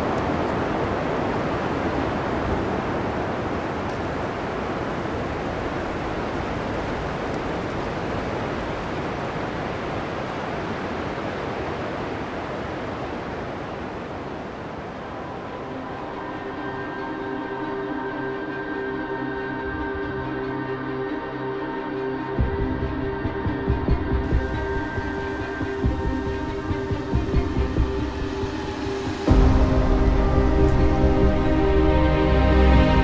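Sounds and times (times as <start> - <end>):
creek water flowing: 0.0 - 33.0.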